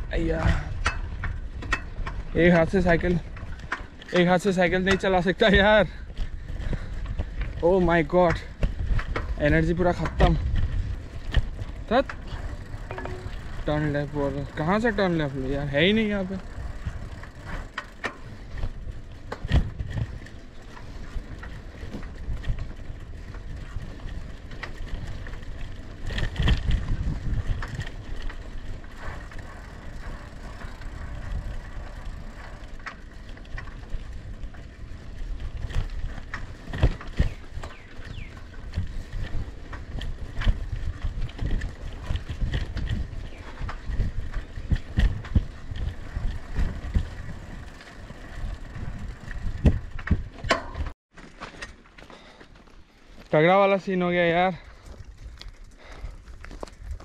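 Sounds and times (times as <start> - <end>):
bicycle frame rattling: 0.0 - 57.0
low rumble of bike ride: 0.0 - 57.0.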